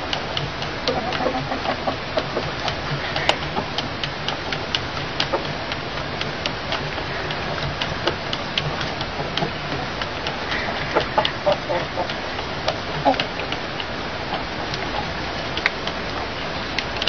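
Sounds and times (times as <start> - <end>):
light irregular ticks: 0.0 - 17.0
steady hiss: 0.0 - 17.0.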